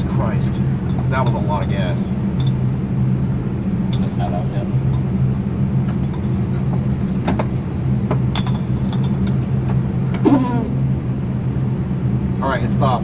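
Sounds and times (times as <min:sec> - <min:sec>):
engine humming: 0:00.0 - 0:12.8.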